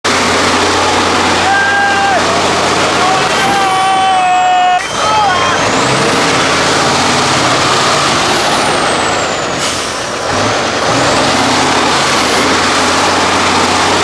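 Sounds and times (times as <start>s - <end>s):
diesel truck engine under load: 0.0s - 14.0s.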